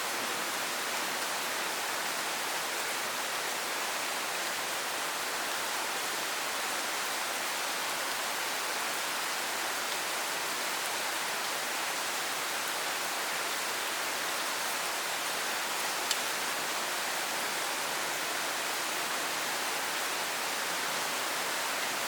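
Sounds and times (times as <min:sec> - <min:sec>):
rain on hard surfaces: 0:00.0 - 0:22.0.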